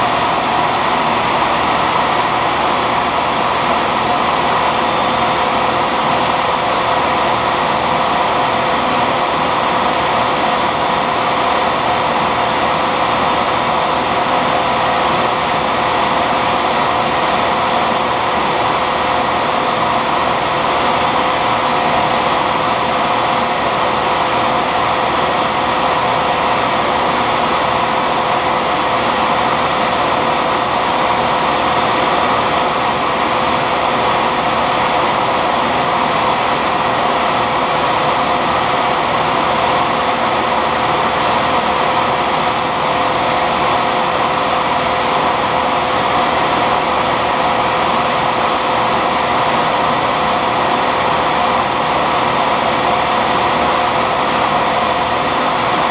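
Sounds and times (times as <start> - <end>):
lathe motor whine: 0.0 - 55.9.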